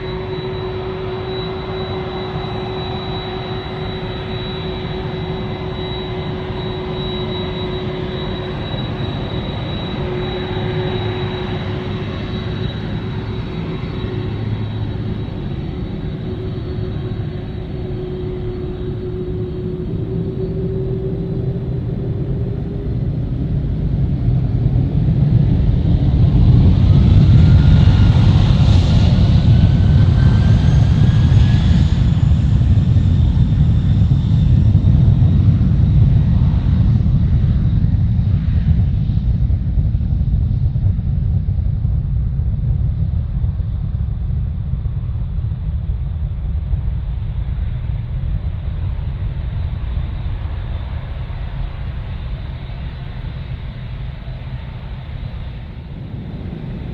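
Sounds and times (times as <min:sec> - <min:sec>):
jet airliner passing at takeoff: 0:00.0 - 0:56.9.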